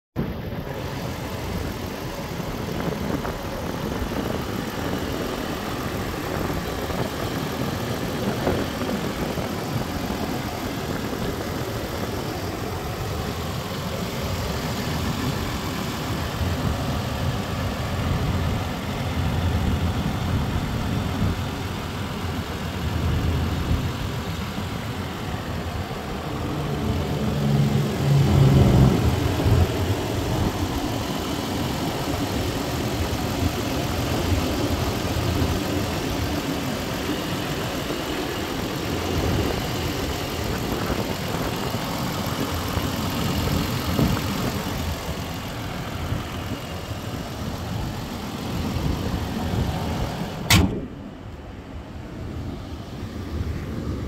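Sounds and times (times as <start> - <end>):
car engine idling: 0.2 - 54.0.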